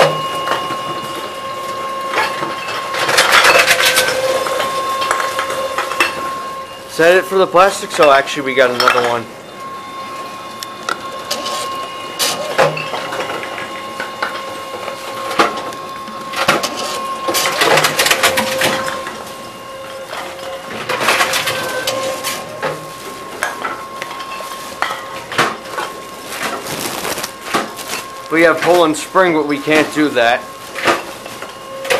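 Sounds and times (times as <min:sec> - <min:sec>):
electrical hum with high whine: 0:00.0 - 0:31.9.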